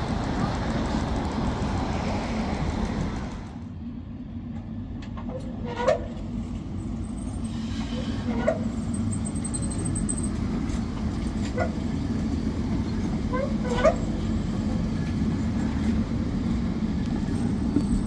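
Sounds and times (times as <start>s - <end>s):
tram rumbling past: 0.0s - 18.0s.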